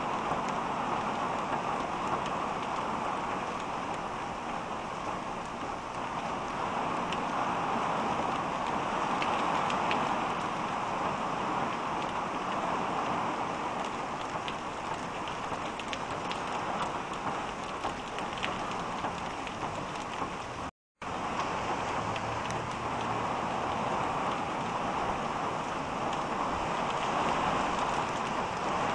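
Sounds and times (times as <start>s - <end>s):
heavy rain on pavement: 0.0s - 28.9s.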